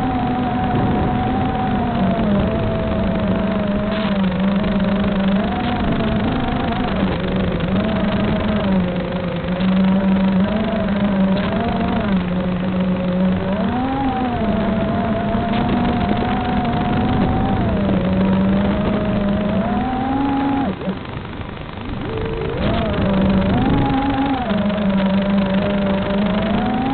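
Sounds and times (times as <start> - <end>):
model aircraft motor humming: 0.0 - 26.9
wind buffeting microphone: 0.0 - 26.9.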